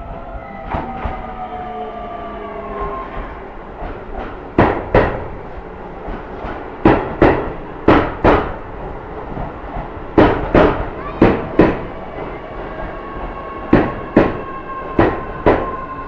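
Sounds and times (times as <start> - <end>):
train running gear whine: 0.0 - 16.0
wheels knocking over rail joints: 2.8 - 16.0.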